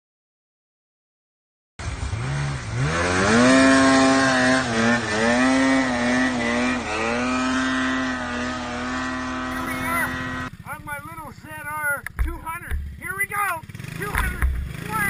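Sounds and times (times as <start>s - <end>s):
snowmobile engine revving: 1.8s - 15.0s.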